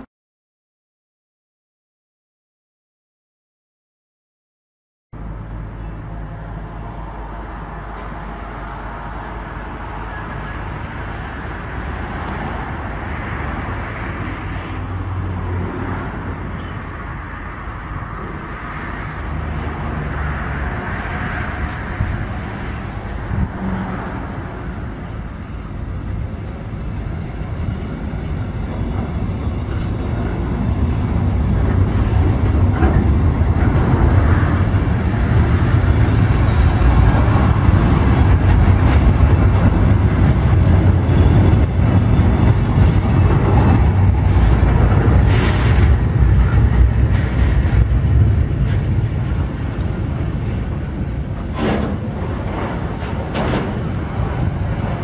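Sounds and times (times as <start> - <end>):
train wheels rumbling on rails: 5.2 - 55.0.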